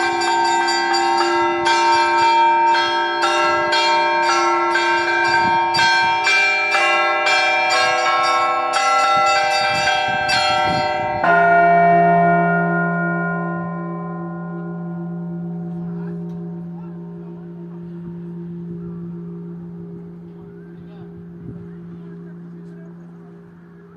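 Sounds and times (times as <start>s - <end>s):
deep bell stroke: 0.0s - 23.9s
small church bells ringing: 0.0s - 23.9s.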